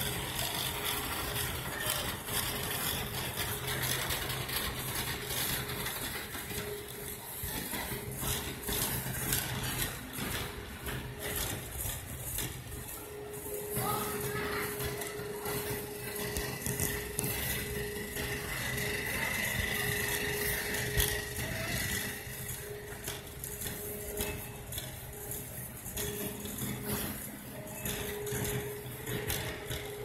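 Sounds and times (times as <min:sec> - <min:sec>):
shopping cart rattling: 0:00.0 - 0:30.0
steady hum: 0:00.0 - 0:30.0.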